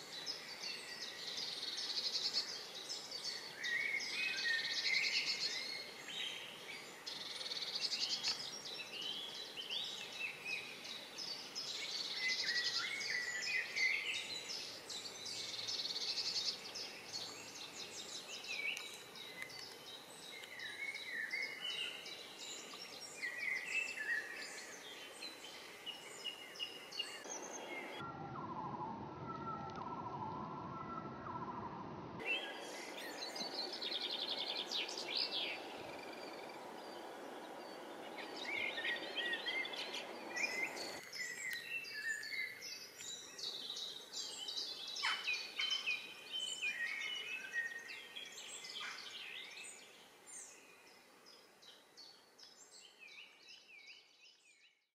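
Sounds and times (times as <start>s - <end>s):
outdoor background noise: 0.0s - 54.8s
songbirds singing: 0.0s - 54.9s.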